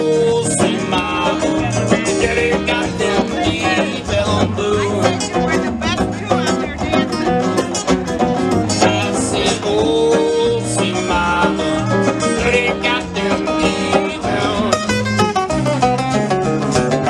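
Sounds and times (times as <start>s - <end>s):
acoustic guitar blues picking: 0.0s - 17.0s
bass line: 0.0s - 17.0s.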